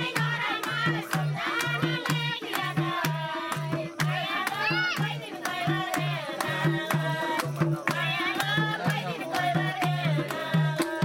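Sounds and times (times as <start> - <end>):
hand drum beat: 0.0 - 11.0
voices singing folk song: 0.0 - 11.0.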